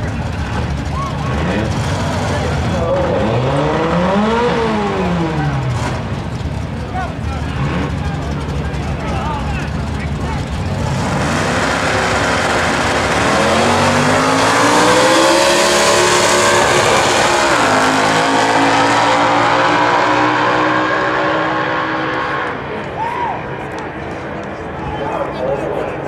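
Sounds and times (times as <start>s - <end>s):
drag racing engines accelerating: 0.0s - 26.0s.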